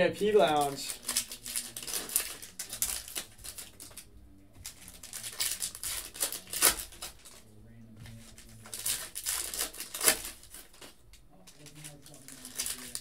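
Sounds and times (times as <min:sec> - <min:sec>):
foil wrappers crinkling and tearing: 0:00.3 - 0:07.5, 0:08.1 - 0:13.0.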